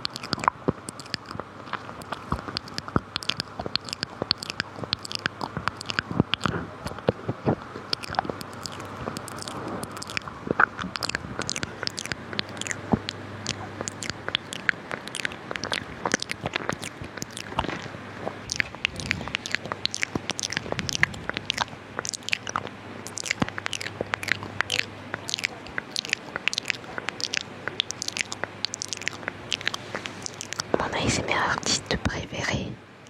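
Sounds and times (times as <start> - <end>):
wet mouth clicks and smacks: 0.0 - 32.2.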